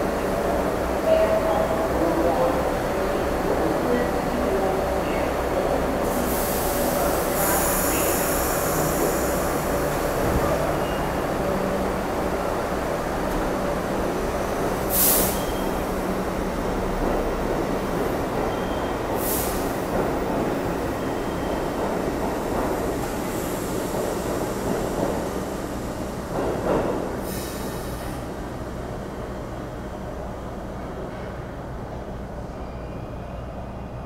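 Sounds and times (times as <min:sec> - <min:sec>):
subway train rumbling past: 0:00.0 - 0:34.0.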